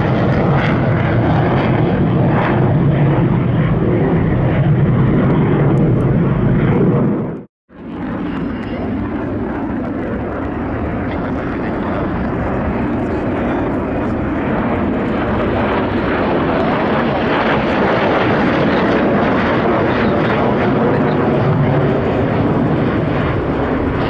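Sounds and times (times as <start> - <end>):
fighter jets flying overhead: 0.0 - 24.0.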